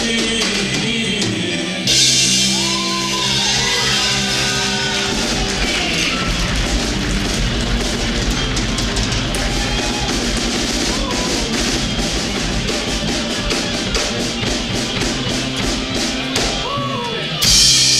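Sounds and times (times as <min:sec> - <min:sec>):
drum kit beat: 0:00.0 - 0:17.9
electric guitar: 0:00.0 - 0:17.9
live rock band playing: 0:00.0 - 0:17.9.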